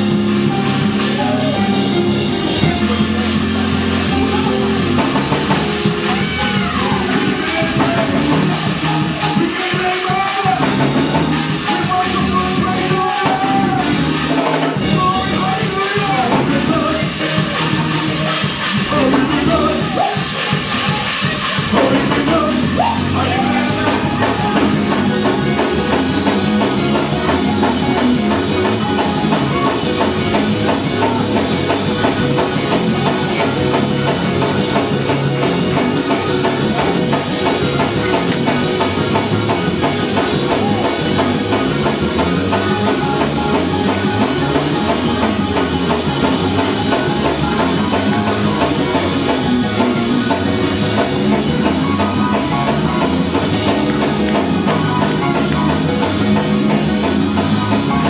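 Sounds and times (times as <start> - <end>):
gospel band playing: 0.0 - 58.0.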